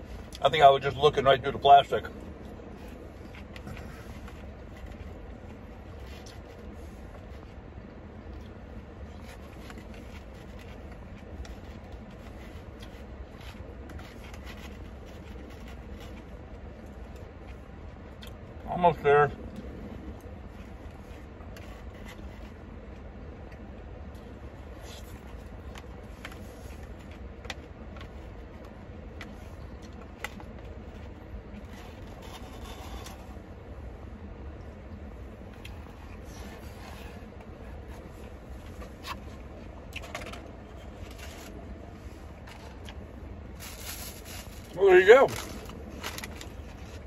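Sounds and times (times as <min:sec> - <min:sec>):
low rumble in car cabin: 0:00.0 - 0:47.0.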